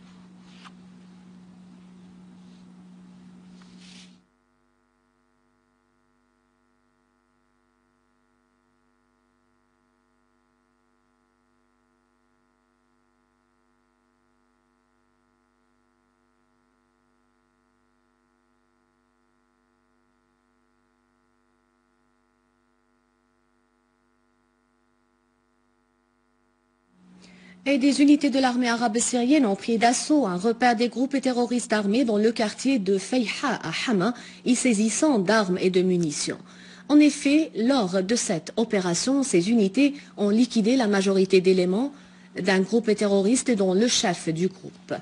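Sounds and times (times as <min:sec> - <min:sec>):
faint electrical hum: 0:00.0 - 0:45.0.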